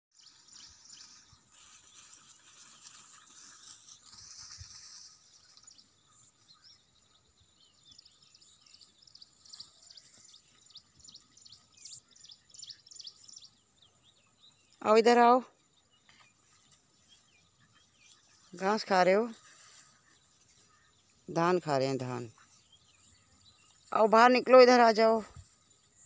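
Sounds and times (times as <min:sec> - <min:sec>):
birds chirping: 0:00.1 - 0:26.0.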